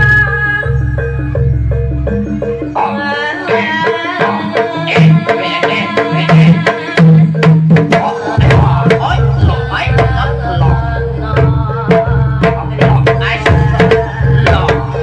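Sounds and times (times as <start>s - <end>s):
wavering high melody: 0.0s - 15.0s.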